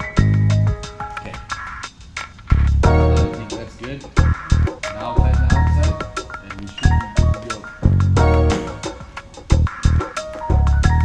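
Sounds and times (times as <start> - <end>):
music with heavy bass and drums: 0.0 - 11.0.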